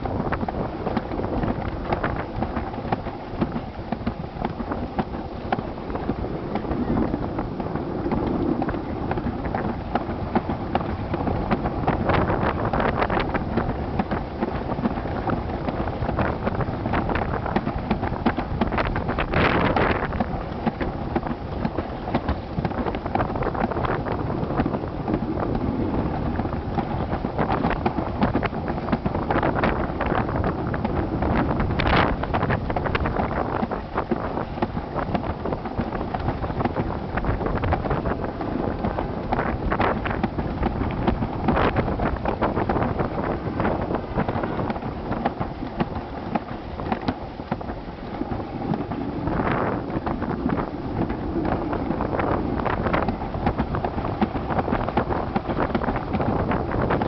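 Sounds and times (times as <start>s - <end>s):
sled wheels rumbling on track: 0.0s - 57.0s
wind buffeting microphone: 0.0s - 57.0s.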